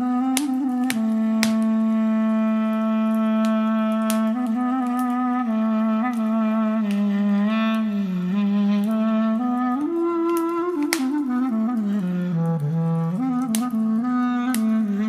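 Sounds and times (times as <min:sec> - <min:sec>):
fireplace fire crackling: 0:00.0 - 0:15.0
woodwind playing slow melody: 0:00.0 - 0:15.0.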